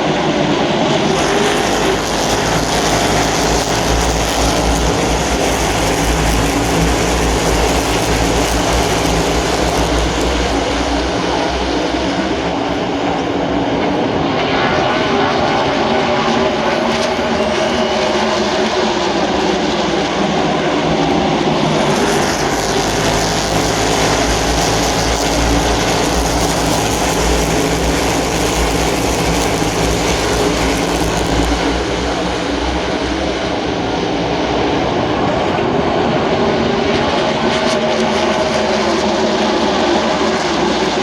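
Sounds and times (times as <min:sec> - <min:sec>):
race car engines droning: 0:00.0 - 0:41.0.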